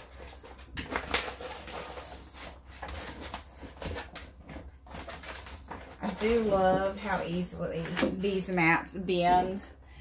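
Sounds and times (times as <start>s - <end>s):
vinyl sheet crinkling and peeling: 0.0s - 9.6s.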